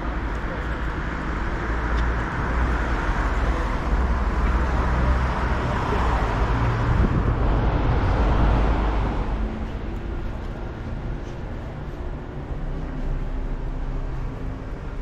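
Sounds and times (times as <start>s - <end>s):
street traffic rushing: 0.0s - 15.0s.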